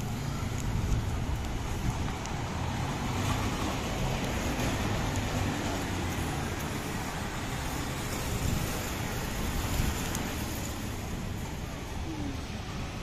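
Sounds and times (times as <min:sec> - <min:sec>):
road noise: 0:00.0 - 0:13.0
vehicle engine running nearby: 0:00.0 - 0:13.0.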